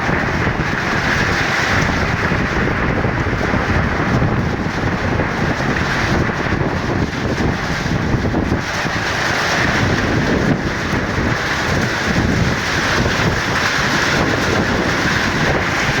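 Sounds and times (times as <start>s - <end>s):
rain falling: 0.0s - 16.0s
wind buffeting microphone: 0.0s - 16.0s.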